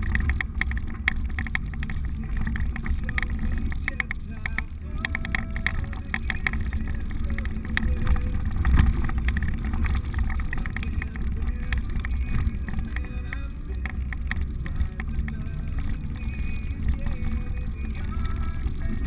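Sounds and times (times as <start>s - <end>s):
vehicle body rattling: 0.0s - 19.0s
vehicle engine and tyres rumbling: 0.0s - 19.0s.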